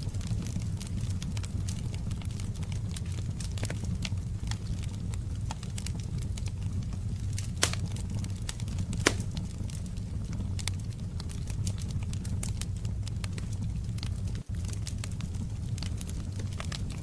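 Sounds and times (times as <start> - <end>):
fire popping: 0.0 - 17.0
low rumble: 0.0 - 17.0
wood fire crackling: 0.0 - 17.0.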